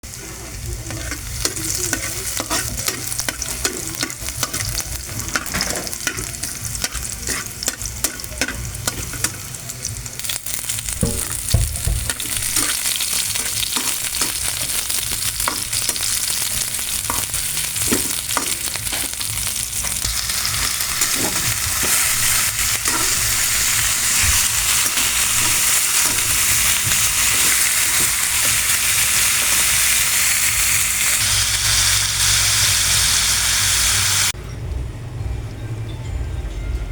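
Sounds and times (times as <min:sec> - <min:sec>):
food sizzling in a frying pan: 0:00.1 - 0:34.4.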